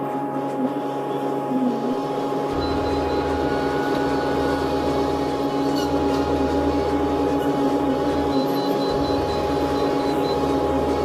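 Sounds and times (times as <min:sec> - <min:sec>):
diesel engine drone: 0:00.0 - 0:11.0
hydraulic whine: 0:00.0 - 0:11.0.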